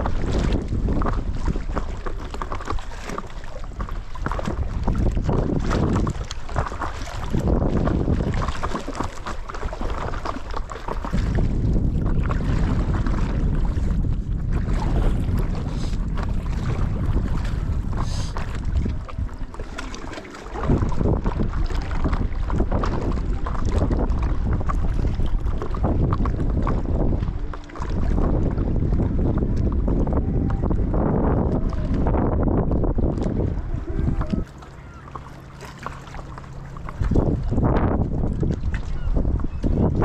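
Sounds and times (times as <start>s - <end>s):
water splashing from paddling: 0.0s - 40.0s
wind buffeting microphone: 0.0s - 40.0s.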